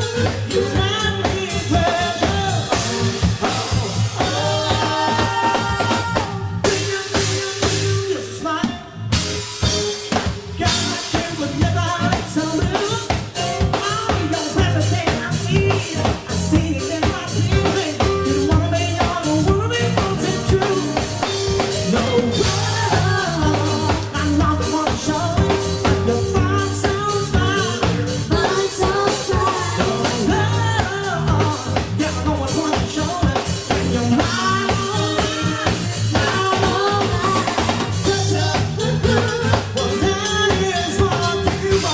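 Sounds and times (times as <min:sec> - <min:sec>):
live band playing dance music: 0:00.0 - 0:41.9.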